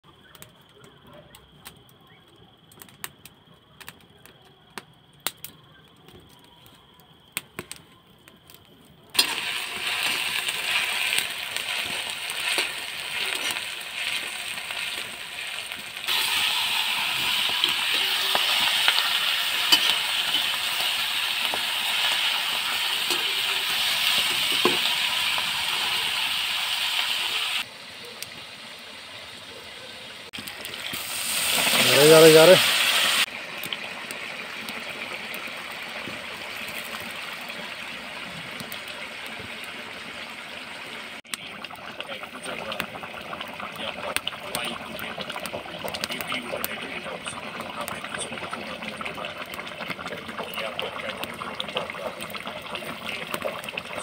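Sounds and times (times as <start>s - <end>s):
food sizzling in hot oil: 9.1s - 54.0s.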